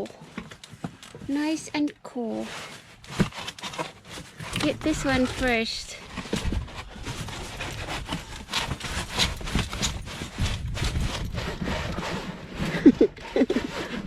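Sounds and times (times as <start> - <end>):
cardboard rubbing and scraping: 0.0 - 1.6, 2.2 - 14.0.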